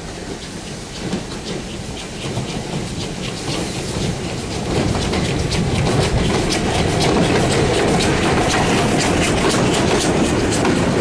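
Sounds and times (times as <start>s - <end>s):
steam train rolling by: 0.0s - 11.0s
wheels clicking over rail joints: 0.0s - 11.0s.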